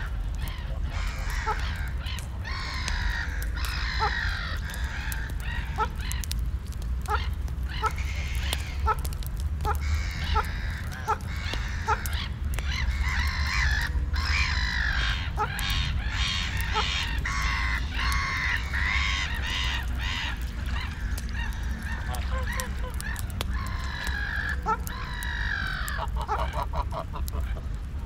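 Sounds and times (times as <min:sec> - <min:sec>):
geese honking: 0:00.0 - 0:06.4, 0:07.0 - 0:27.7.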